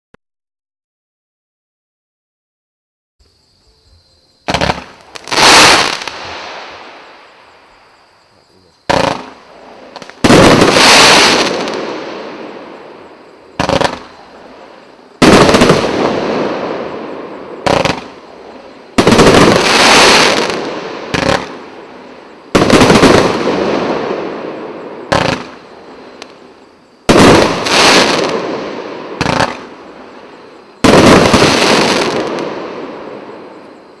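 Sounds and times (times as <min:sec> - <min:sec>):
firework bangs and crackle: 0:04.4 - 0:08.0, 0:08.8 - 0:34.0.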